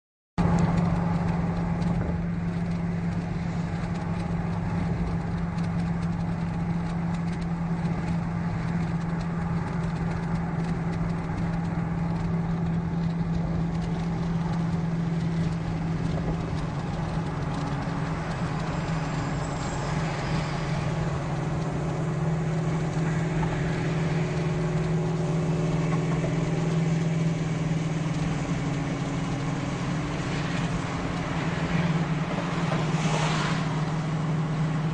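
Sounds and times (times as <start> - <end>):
car engine drone: 0.4 - 34.9
road and tyre noise: 0.4 - 34.9.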